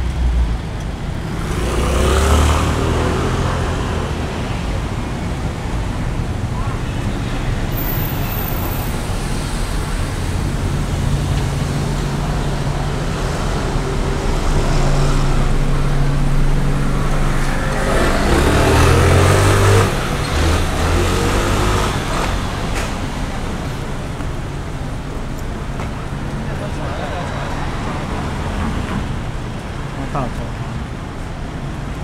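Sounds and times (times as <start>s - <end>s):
vehicles passing close by: 0.0s - 32.0s.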